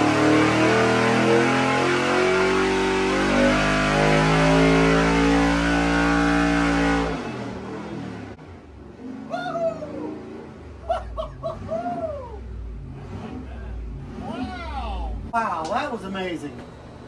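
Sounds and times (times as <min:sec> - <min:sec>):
engine revving under load: 0:00.0 - 0:15.4.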